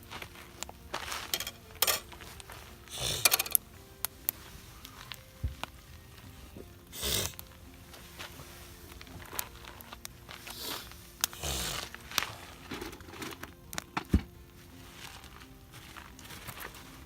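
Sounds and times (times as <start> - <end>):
gear crinkling and rustling: 0.0 - 17.0.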